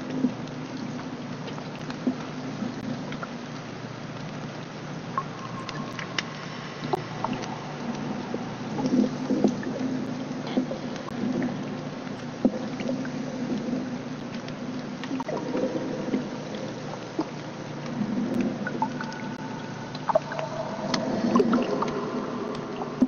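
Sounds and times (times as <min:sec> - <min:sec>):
sharp clicks and crackles: 0:00.0 - 0:08.1, 0:08.8 - 0:22.7
low underwater hum: 0:00.0 - 0:23.0.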